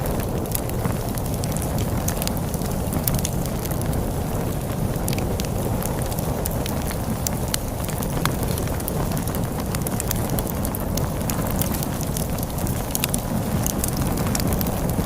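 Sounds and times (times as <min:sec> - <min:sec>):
low rush of storm wind: 0:00.0 - 0:15.0
wood fire crackling: 0:00.0 - 0:15.0.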